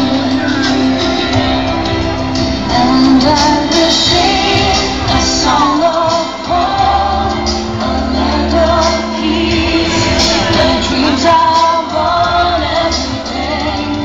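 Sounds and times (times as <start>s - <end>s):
instrumental backing music: 0.0s - 14.0s
woman singing: 0.0s - 14.0s.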